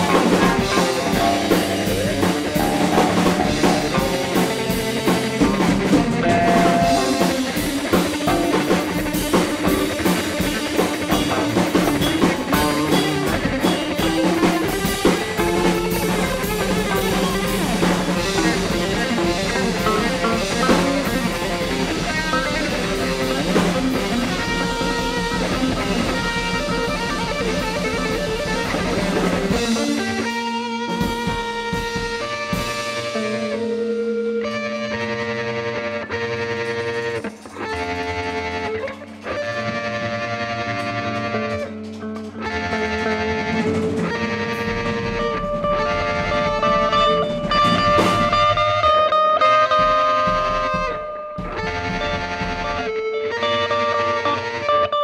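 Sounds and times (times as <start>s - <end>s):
drum kit: 0.0s - 55.0s
guitars playing: 0.0s - 55.0s.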